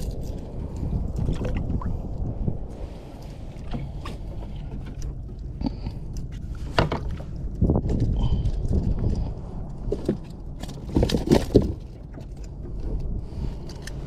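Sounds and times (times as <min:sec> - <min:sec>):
wind and water rumble: 0:00.0 - 0:14.0.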